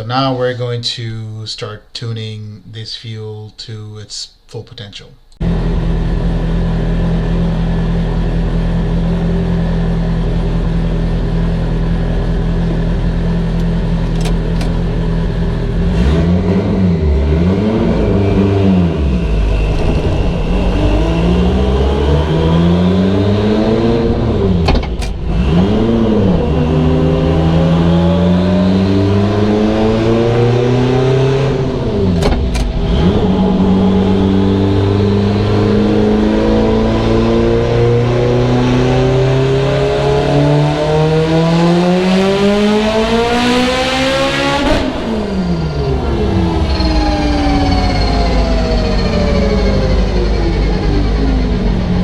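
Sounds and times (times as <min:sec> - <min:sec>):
turbocharged car engine revving: 0:05.4 - 0:52.0.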